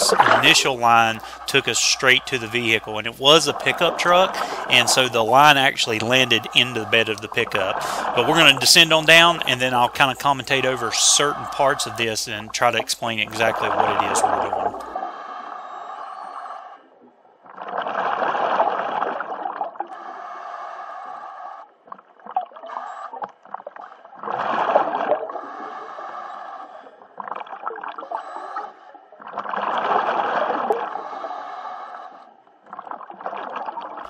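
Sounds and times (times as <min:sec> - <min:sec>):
exhaled bubbles rushing: 0:00.0 - 0:15.0, 0:17.0 - 0:20.1, 0:21.6 - 0:26.1, 0:27.0 - 0:31.2, 0:32.6 - 0:34.0.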